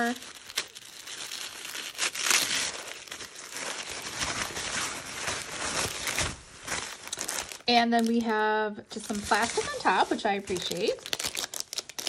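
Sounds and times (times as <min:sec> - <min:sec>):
tissue paper crinkling and rustling: 0:00.0 - 0:12.0.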